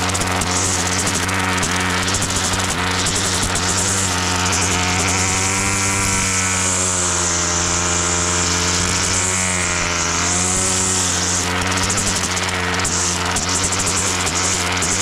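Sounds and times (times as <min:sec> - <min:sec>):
lawn mower motor running: 0:00.0 - 0:15.0.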